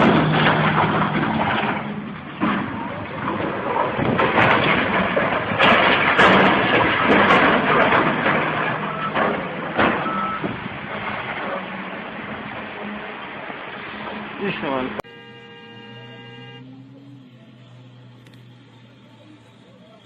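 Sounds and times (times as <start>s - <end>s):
heavy machinery working: 0.0s - 14.4s, 15.7s - 20.0s.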